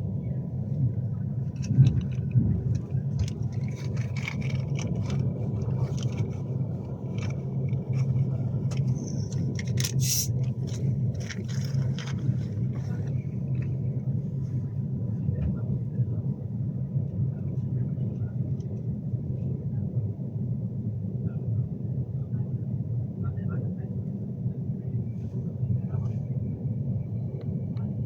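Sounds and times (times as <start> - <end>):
train cabin low rumble: 0.0 - 28.0.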